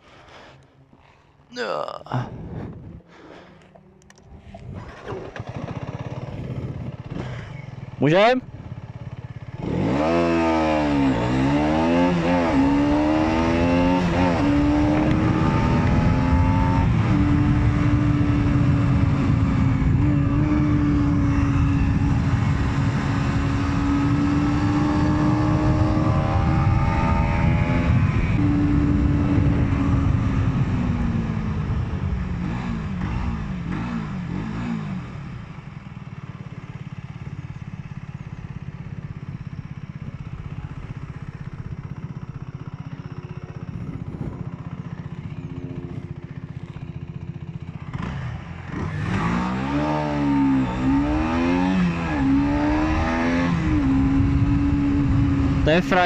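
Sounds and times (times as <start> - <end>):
motorcycle engine accelerating: 0.1 - 56.0.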